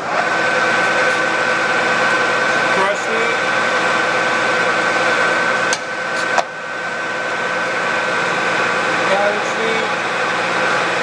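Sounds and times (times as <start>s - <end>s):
lathe gear whine: 0.0s - 11.0s
lathe machine noise: 0.0s - 11.0s.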